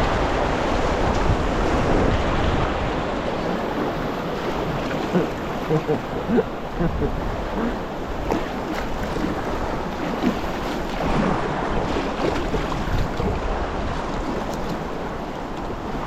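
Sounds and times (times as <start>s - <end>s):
river water rushing and splashing: 0.0s - 16.0s
wind noise on microphone: 0.0s - 16.0s.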